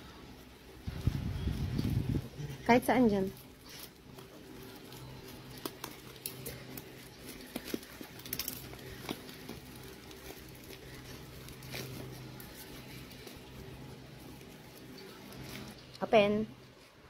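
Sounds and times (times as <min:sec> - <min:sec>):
low steady hum: 0:00.0 - 0:17.0
plastic wrapping crinkling: 0:00.1 - 0:17.0.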